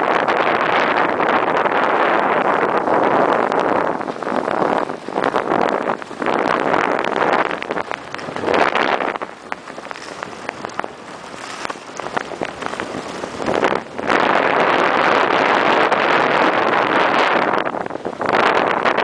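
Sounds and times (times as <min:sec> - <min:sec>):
wind over microphone: 0:00.0 - 0:19.0
skis sliding on snow: 0:00.9 - 0:17.6.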